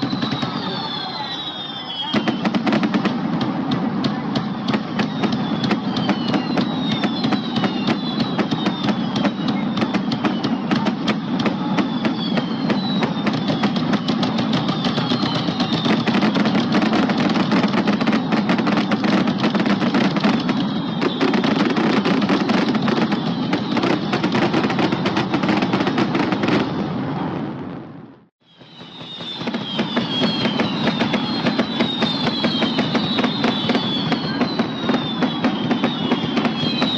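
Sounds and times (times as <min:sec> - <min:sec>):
descending fireworks whistles: 0:00.0 - 0:36.9
fireworks crackling bangs: 0:00.0 - 0:36.9.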